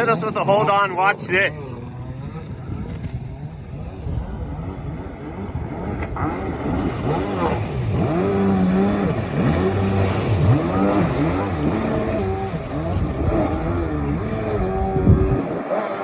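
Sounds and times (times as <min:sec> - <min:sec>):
jet ski engine revving: 0:00.0 - 0:16.0.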